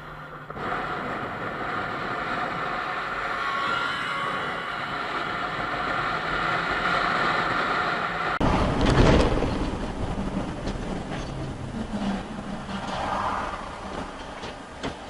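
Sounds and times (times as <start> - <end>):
dull vehicle rumble: 0.0 - 15.0
wind rush: 0.0 - 15.0.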